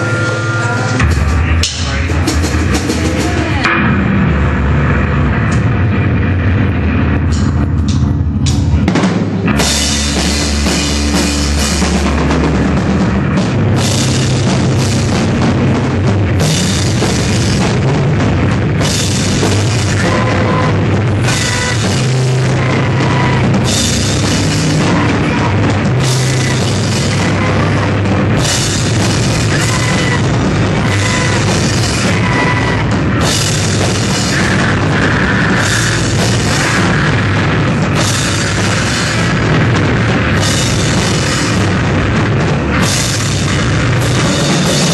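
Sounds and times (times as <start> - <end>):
electric guitar: 0.0 - 44.9
loud noise band playing: 0.0 - 44.9.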